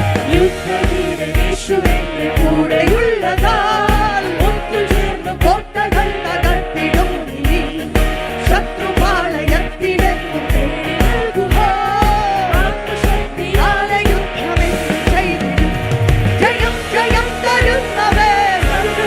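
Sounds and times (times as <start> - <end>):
person singing over band: 0.0 - 19.0.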